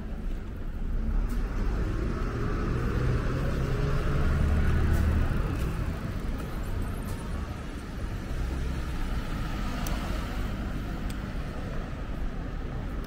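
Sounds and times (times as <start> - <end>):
engine rumble of passing vehicle: 0.0 - 13.0.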